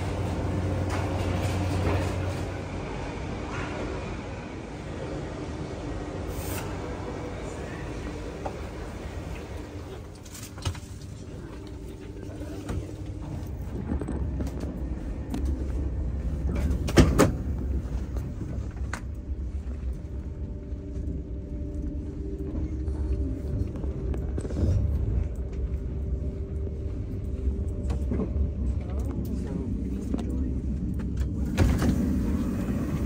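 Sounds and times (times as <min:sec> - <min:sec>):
vehicle low rumble: 0:00.0 - 0:33.0.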